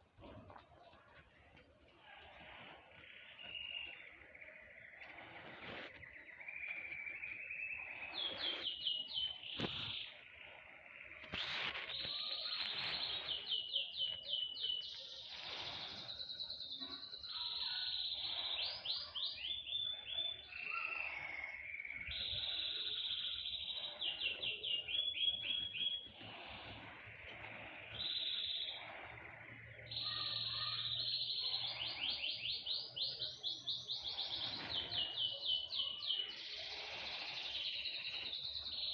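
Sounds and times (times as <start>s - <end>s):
small songbirds singing: 0.0s - 38.9s.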